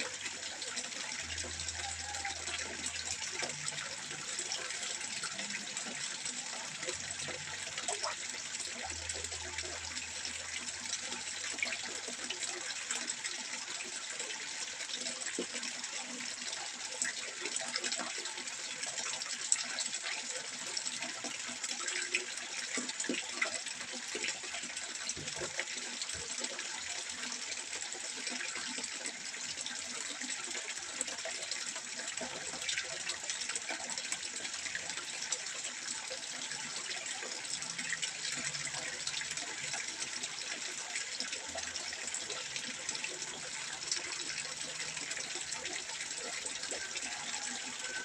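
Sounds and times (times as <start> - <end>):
water trickling into a pond: 0.0 - 48.0.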